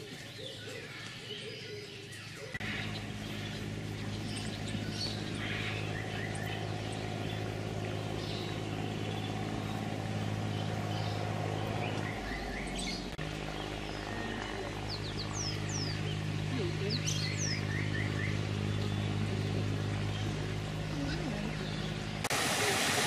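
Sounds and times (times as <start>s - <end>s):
birds chirping and whistling: 0.0s - 22.2s
steady low hum: 0.0s - 22.8s.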